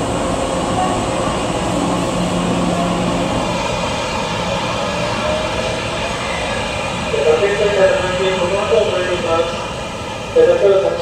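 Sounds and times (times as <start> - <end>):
train mechanical drone: 0.0 - 11.0.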